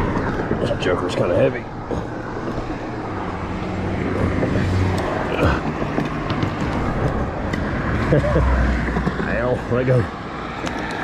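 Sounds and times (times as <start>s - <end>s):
road rushing noise: 0.0s - 11.0s
vehicle engine drone: 0.0s - 11.0s.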